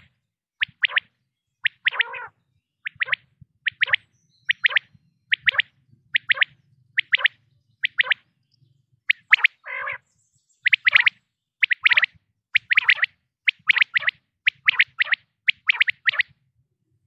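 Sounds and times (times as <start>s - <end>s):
quail calling: 0.6s - 8.2s, 9.1s - 10.0s, 10.7s - 16.3s.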